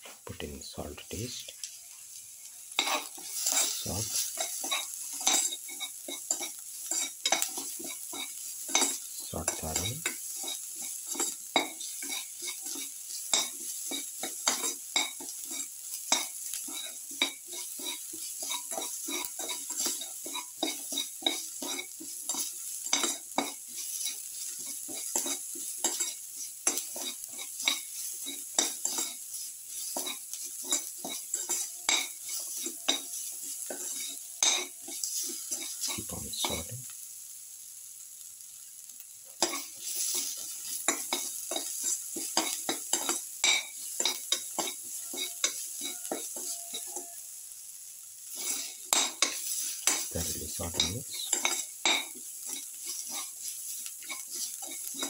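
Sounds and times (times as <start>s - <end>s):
onions sizzling in oil: 0.0s - 55.0s
spatula scraping a pan: 2.7s - 36.7s, 39.3s - 47.4s, 48.2s - 55.0s.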